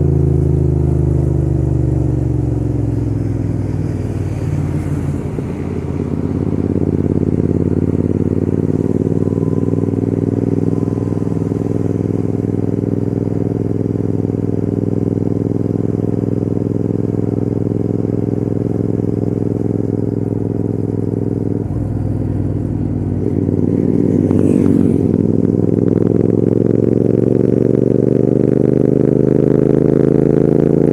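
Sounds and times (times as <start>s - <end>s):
motorcycle engine under throttle: 0.0s - 30.9s.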